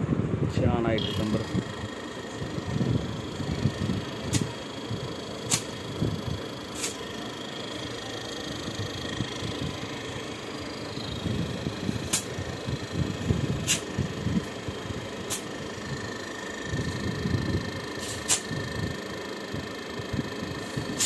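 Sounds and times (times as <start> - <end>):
refrigerator compressor running: 0.0 - 21.0
sharp ticks: 0.9 - 21.0.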